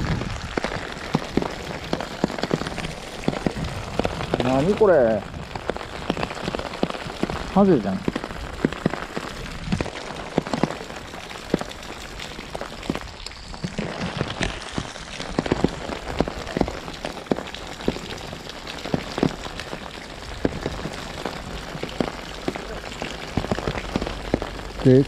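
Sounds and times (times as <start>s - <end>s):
heavy rain hissing: 0.0s - 25.0s
raindrop hits: 0.0s - 25.0s.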